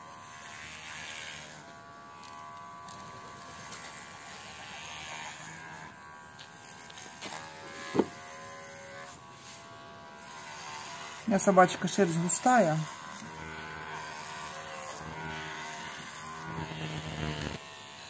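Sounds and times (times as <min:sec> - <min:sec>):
pet hair clipper buzzing: 0:00.0 - 0:18.0.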